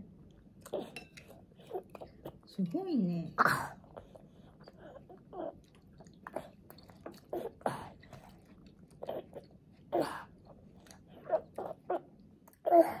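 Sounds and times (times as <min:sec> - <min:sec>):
toddler chewing food: 0:00.0 - 0:02.6, 0:03.7 - 0:13.0.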